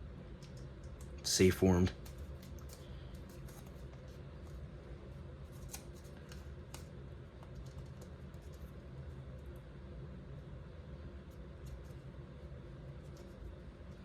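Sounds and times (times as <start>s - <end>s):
low steady hum: 0.0s - 14.0s
paper crinkling and ticking: 0.4s - 9.6s, 11.2s - 14.0s.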